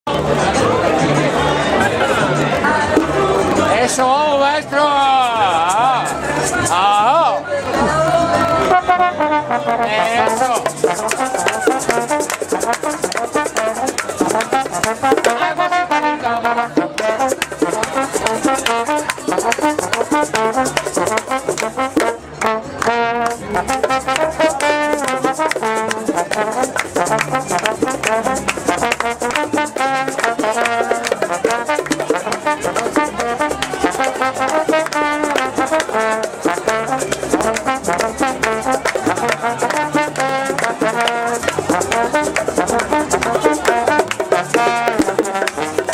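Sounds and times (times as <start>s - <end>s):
brass band playing: 8.0s - 45.9s.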